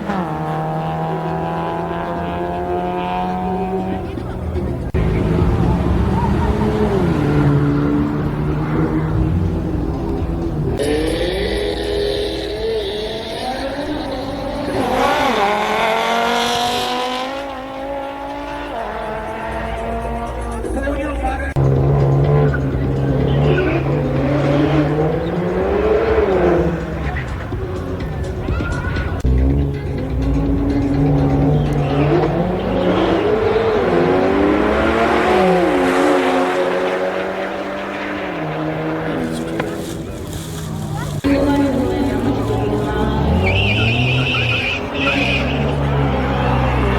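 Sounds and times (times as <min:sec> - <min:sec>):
sports car engine accelerating: 0:00.0 - 0:46.9.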